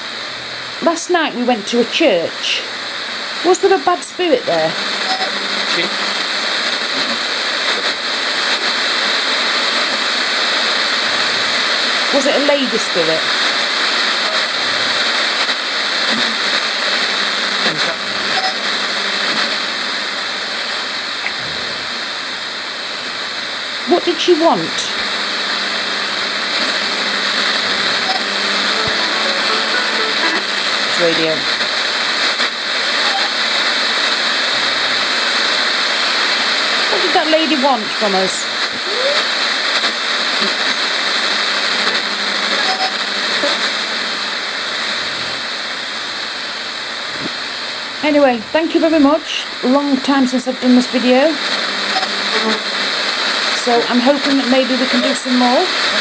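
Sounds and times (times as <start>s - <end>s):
radio snatches of sound: 0.0s - 56.0s
radio static hiss: 0.0s - 56.0s.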